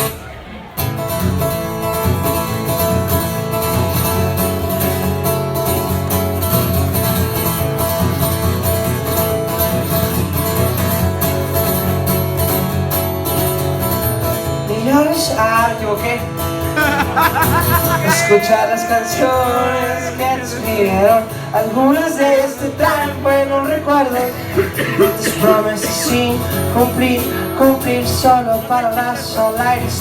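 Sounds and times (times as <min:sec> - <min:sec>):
electric guitar: 0:00.8 - 0:30.0.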